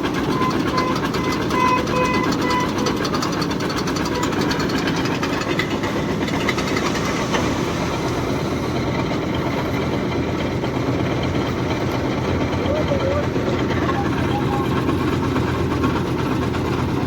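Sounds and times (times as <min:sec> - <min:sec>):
machine engine running: 0:00.0 - 0:17.0.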